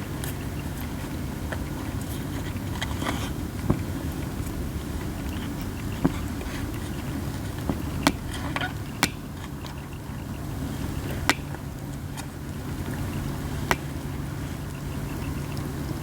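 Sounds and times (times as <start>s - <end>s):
campfire flames rushing: 0.0s - 16.0s
wood cracking pops: 0.1s - 10.4s, 11.0s - 15.9s.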